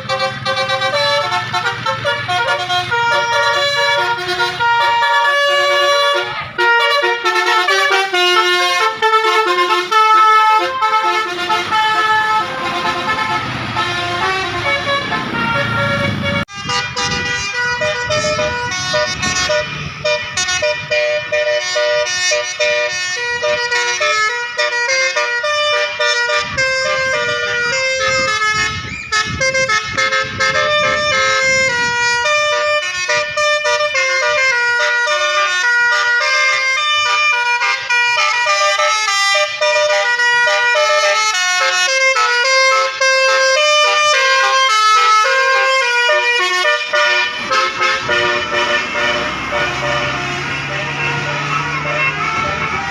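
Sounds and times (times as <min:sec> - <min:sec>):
musical air horn playing tune: 0:00.0 - 0:52.9.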